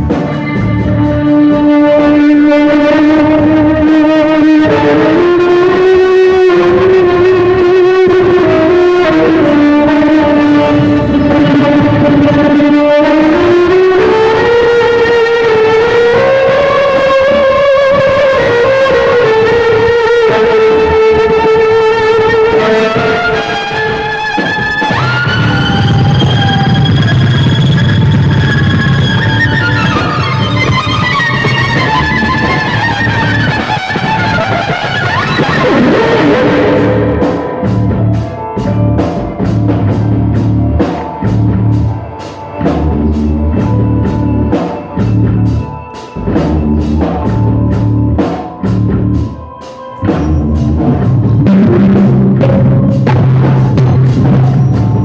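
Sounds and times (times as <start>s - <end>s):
drum beat: 0.0s - 42.0s, 50.5s - 55.0s
rock music: 0.0s - 55.0s
sweeping falling tones: 1.0s - 55.0s.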